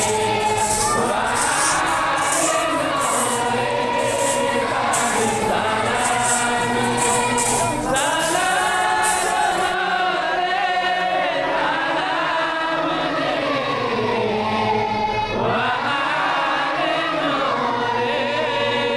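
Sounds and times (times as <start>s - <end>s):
crowd of men chanting: 0.0s - 18.9s.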